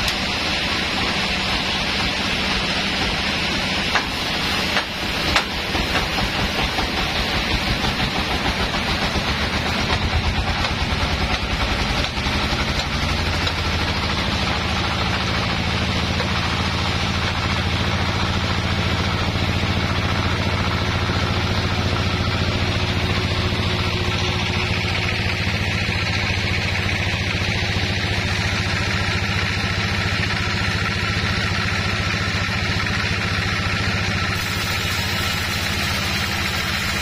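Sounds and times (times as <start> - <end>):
sawmill motor drone: 0.0 - 37.0.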